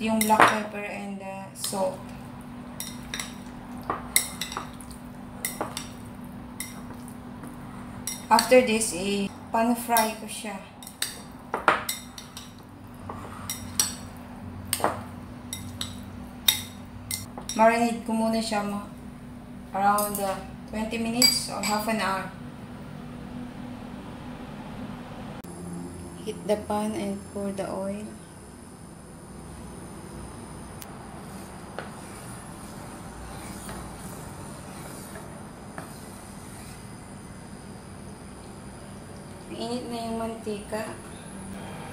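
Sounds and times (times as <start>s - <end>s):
induction cooktop hum and hiss: 0.0s - 41.9s.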